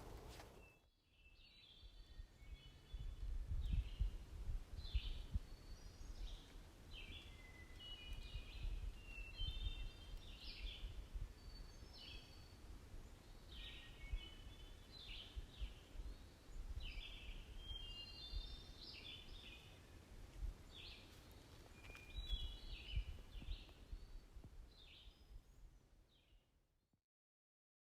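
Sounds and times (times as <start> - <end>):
songbird singing: 0.0 - 26.4.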